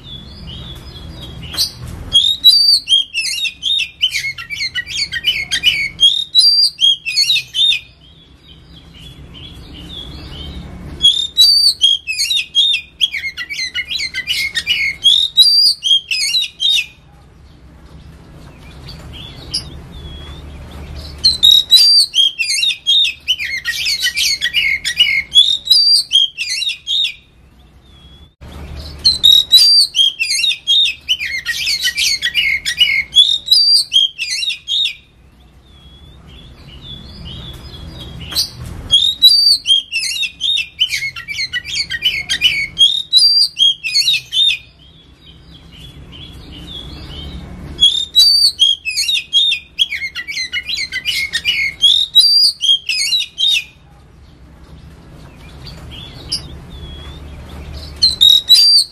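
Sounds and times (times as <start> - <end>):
bird singing: 0.0 - 58.9.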